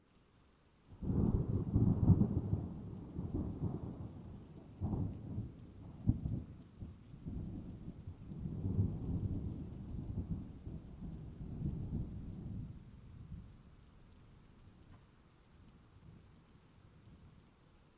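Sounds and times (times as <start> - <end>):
rain: 0.0 - 17.9.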